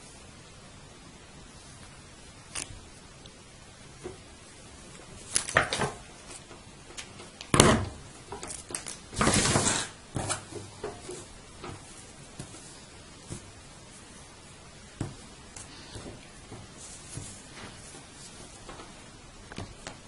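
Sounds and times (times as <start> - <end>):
fabric rustling: 3.8 - 20.0.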